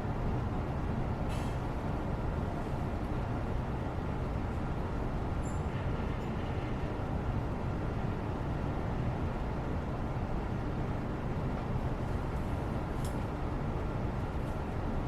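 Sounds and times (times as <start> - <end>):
low rumbling white noise: 0.0 - 15.0.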